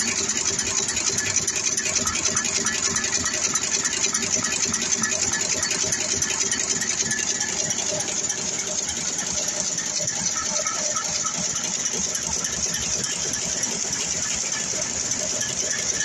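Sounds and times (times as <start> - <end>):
machine mechanical clatter: 0.0 - 16.0.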